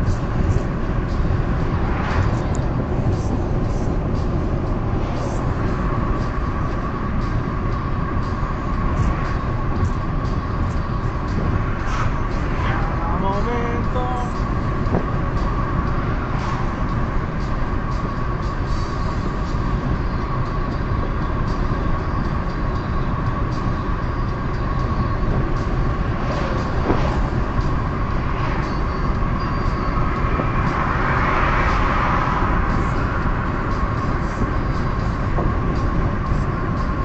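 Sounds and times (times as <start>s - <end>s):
car tyres and engine rumble: 0.0s - 37.0s.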